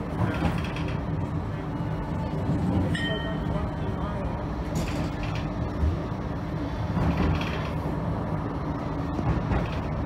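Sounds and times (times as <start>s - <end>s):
tram wheels rumbling on rail: 0.0s - 10.0s.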